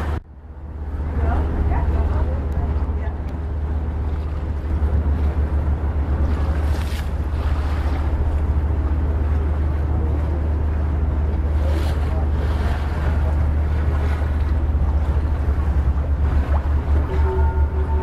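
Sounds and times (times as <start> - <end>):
boat engine drone: 0.0 - 18.0
water washing past: 0.0 - 18.0
wind buffeting microphone: 0.0 - 18.0.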